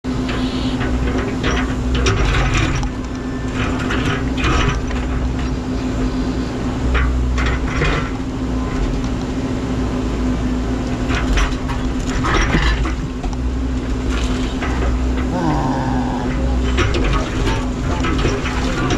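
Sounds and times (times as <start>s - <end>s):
excavator engine humming: 0.1s - 18.9s.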